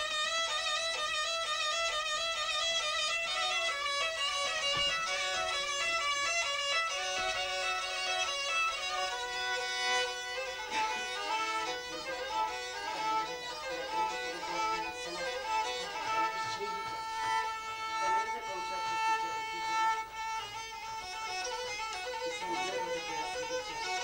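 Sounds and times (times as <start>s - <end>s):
bowed fiddle folk melody: 0.0s - 24.0s.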